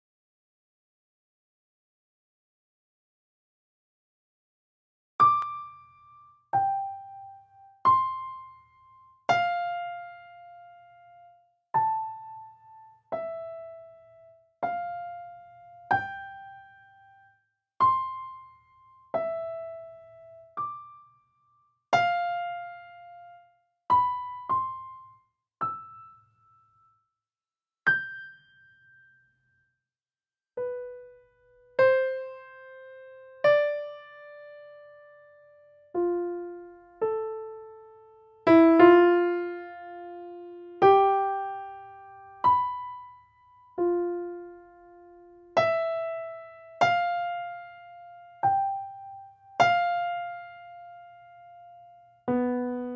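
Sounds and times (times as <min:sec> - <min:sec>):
slow solo piano: 0:05.2 - 0:27.0, 0:27.8 - 0:29.3, 0:30.6 - 0:52.9.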